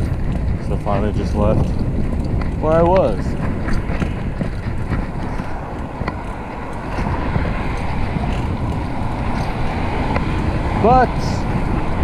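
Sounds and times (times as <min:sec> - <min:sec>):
bicycle tires rumbling on road: 0:00.0 - 0:12.0
wind rush over microphone: 0:00.0 - 0:12.0.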